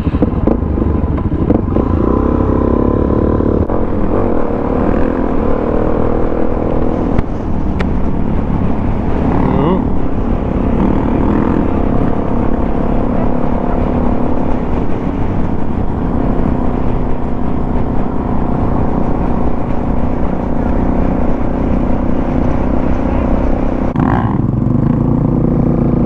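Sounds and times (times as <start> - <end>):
motorcycle engine cruising: 0.0 - 26.0
wind rumbling on microphone: 0.0 - 26.0.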